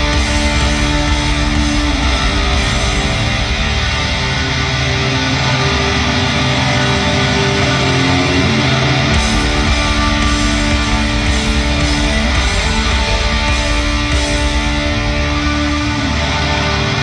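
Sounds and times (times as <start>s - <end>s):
electric guitars: 0.0s - 17.0s
hard rock band playing live: 0.0s - 17.0s.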